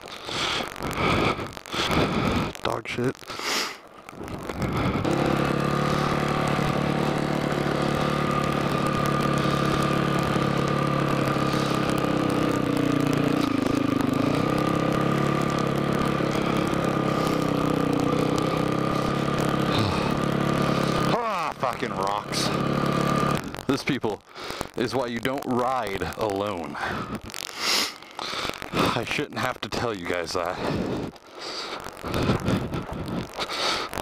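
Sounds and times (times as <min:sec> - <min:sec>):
dirt bike engine running: 0:00.0 - 0:02.6, 0:03.6 - 0:34.0.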